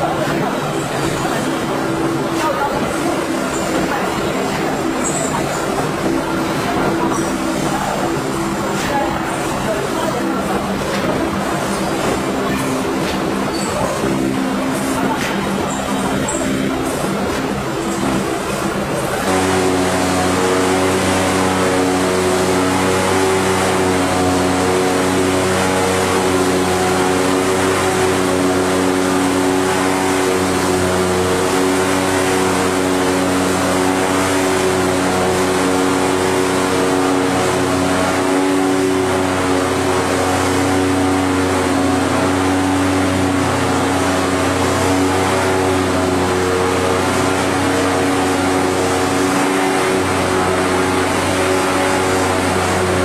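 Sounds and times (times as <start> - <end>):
production line machinery humming: 0.0 - 53.0.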